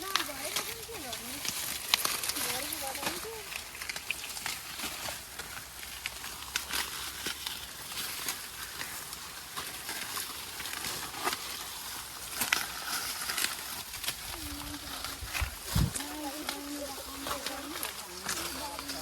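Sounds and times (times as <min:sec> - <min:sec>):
dry plants rustling and crackling: 0:00.0 - 0:19.0.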